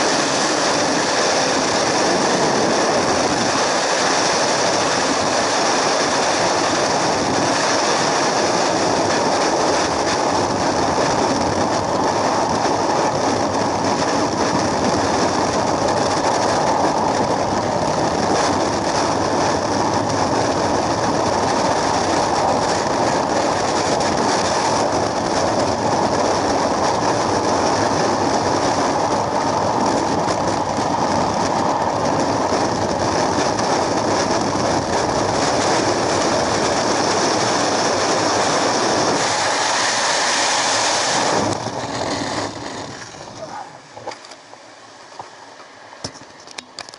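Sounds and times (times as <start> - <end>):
wind roar: 0.0 - 46.9.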